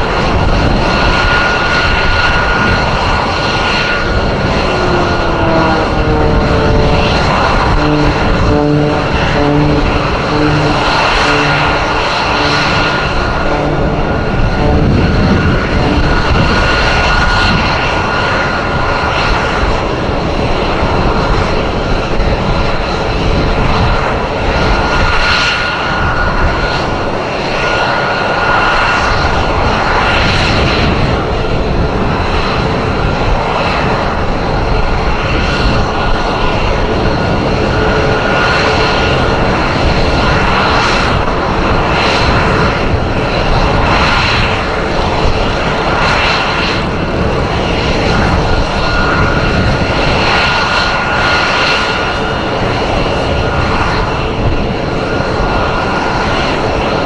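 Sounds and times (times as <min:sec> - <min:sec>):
high-pitched jet whine: 0:00.0 - 0:57.0
jet engines roaring: 0:00.0 - 0:57.0.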